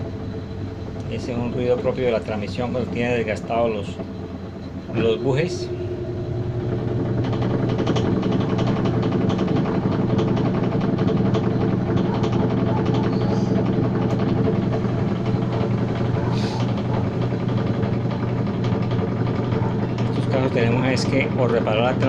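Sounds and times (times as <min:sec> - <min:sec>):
fast transmission rattle: 0:00.0 - 0:22.0
washing machine spinning: 0:00.0 - 0:22.0.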